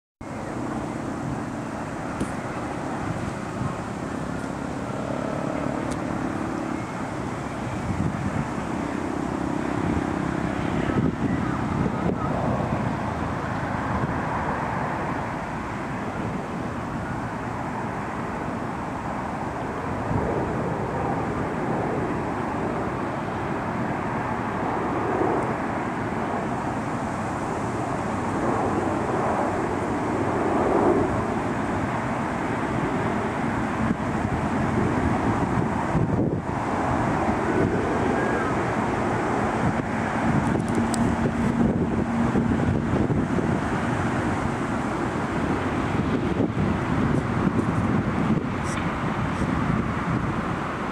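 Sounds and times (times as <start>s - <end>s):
distant traffic hum: 0.2s - 50.9s.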